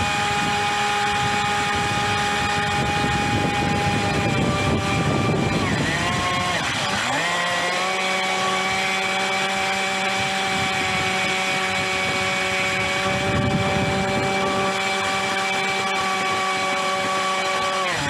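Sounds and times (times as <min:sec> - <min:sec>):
high motor whine: 0:00.0 - 0:18.0.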